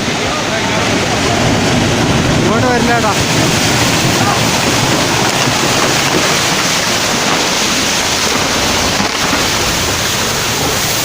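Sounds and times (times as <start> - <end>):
rush of fast-flowing floodwater: 0.0 - 11.0.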